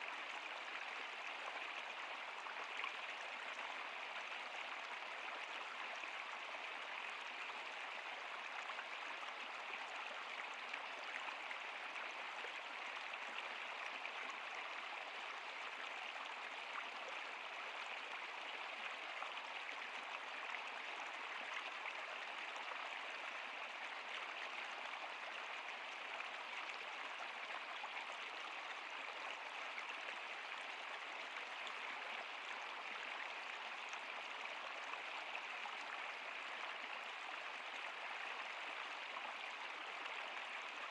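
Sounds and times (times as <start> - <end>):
stream water flowing over rocks: 0.0 - 40.9.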